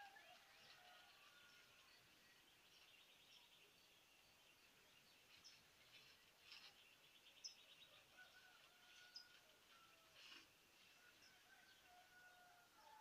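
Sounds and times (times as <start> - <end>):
faint birdsong chirps and trills: 0.0 - 13.0.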